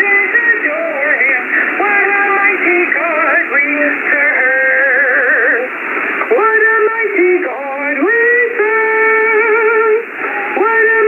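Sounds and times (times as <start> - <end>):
tinny singing over radio: 0.0 - 11.0.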